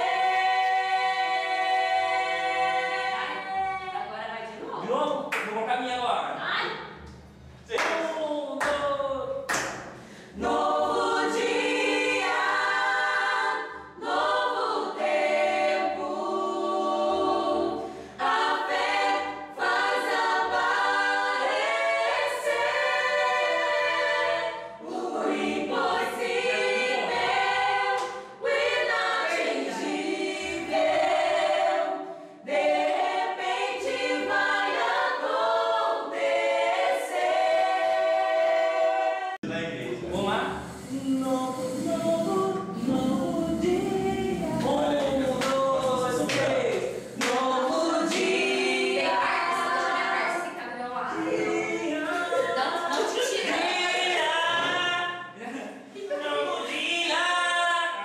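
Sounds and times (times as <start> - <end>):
group singing gospel: 0.0 - 5.3, 8.6 - 58.0.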